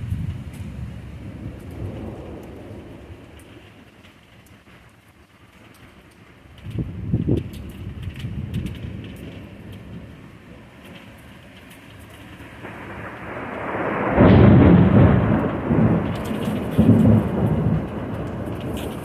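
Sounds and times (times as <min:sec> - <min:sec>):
rain hiss: 0:00.0 - 0:19.0
thunder rumbling: 0:00.0 - 0:19.0.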